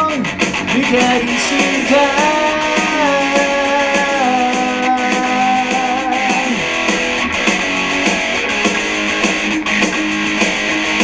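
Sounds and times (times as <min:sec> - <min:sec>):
guitars sustained notes: 0:00.0 - 0:11.0
rock band backing: 0:00.0 - 0:11.0.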